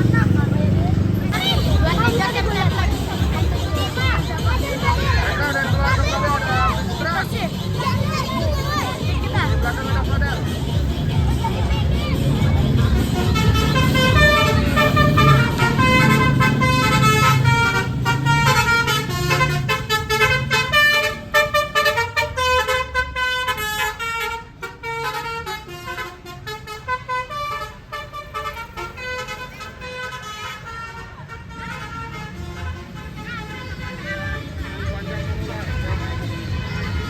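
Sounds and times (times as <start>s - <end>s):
low engine rumble: 0.0s - 37.0s
multi-tone air horn melody: 1.0s - 37.0s.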